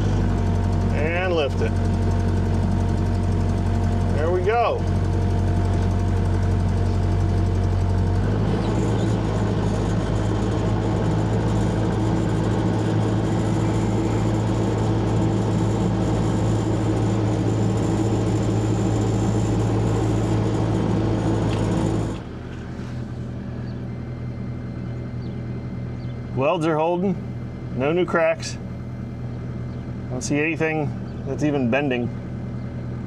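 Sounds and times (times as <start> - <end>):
excavator engine under load: 0.0 - 33.0.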